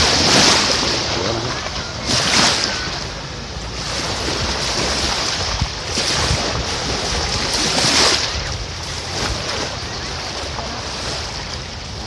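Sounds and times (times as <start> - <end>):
sea surf washing on sand: 0.0 - 12.0
wind buffeting microphone: 0.0 - 12.0.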